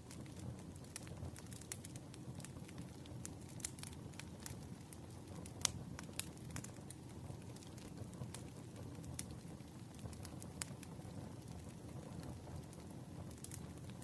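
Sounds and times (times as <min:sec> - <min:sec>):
low rumble of flame: 0:00.0 - 0:14.0
wood fire crackling and popping: 0:00.0 - 0:14.0.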